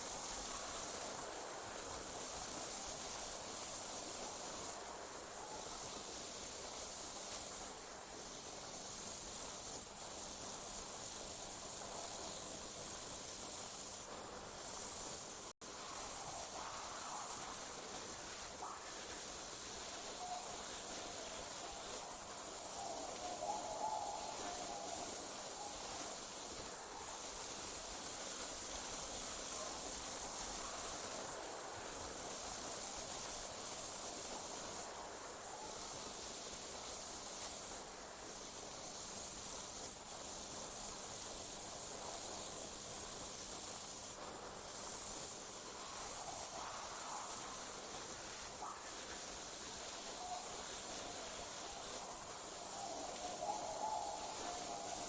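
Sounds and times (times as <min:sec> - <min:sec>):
night insects trilling: 0:00.0 - 0:55.0.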